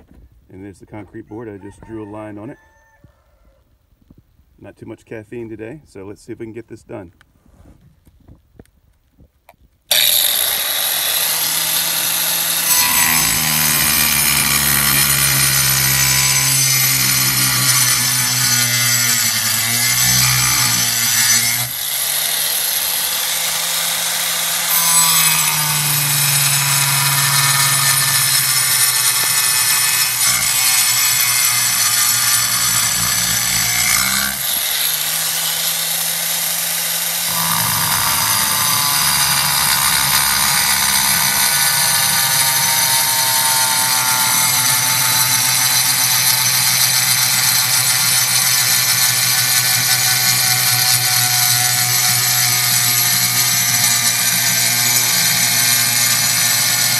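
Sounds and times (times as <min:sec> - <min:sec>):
angle grinder cutting board: 0:09.9 - 0:56.9.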